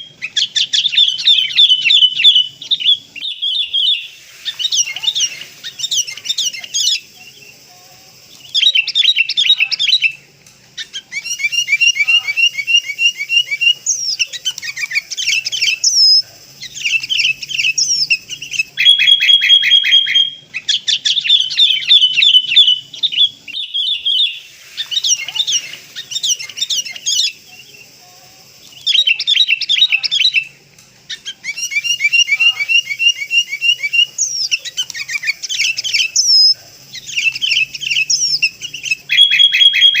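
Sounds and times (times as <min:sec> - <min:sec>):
bulbul chirping and trilling: 0:00.0 - 0:07.2, 0:08.4 - 0:27.5, 0:28.7 - 0:40.0.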